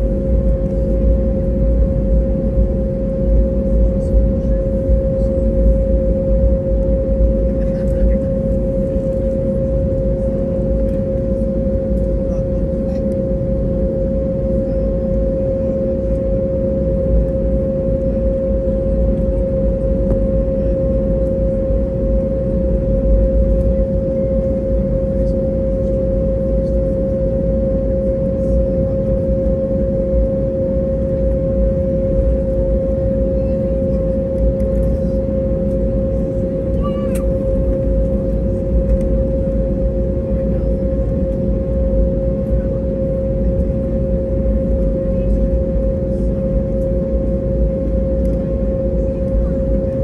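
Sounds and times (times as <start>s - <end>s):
aircraft cabin rumble: 0.0s - 50.0s
constant hum: 0.0s - 50.0s.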